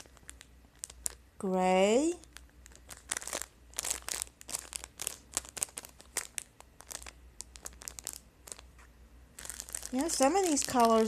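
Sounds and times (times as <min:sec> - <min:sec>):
plastic packaging crinkling: 0:00.0 - 0:01.2, 0:02.1 - 0:11.0.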